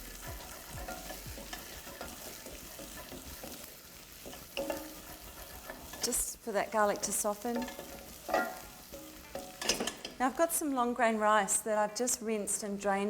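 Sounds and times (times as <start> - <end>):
onions sizzling in oil: 0.0 - 12.2.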